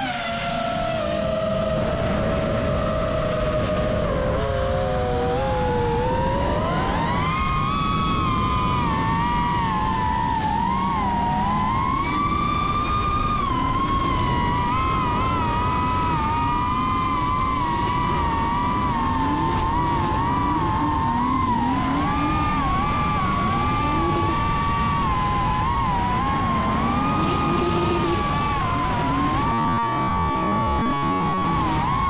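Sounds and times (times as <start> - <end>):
quadcopter motors whining: 0.0 - 32.0
steady rushing noise: 0.0 - 32.0.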